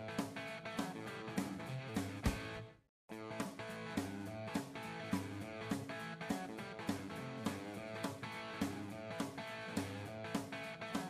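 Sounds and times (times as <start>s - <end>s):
guitar music with steady beat: 0.0s - 11.0s.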